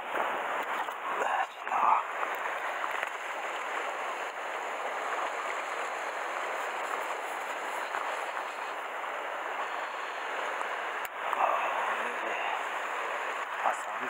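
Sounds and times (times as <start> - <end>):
waves washing against rocks: 0.0 - 14.0.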